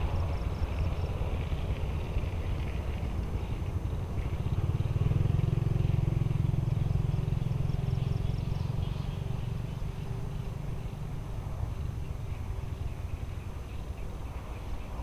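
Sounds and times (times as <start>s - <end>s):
small motorcycle engine passing: 0.0s - 15.0s.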